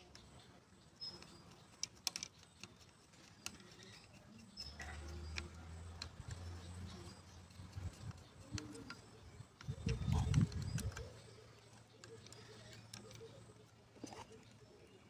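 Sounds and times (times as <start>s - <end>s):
small clicks and taps on metal: 1.1s - 13.6s.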